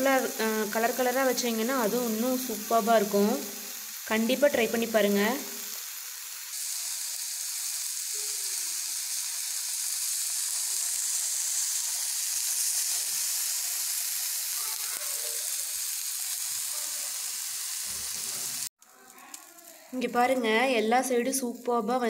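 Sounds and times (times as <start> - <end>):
chicken sizzling in oil: 0.0 - 20.2.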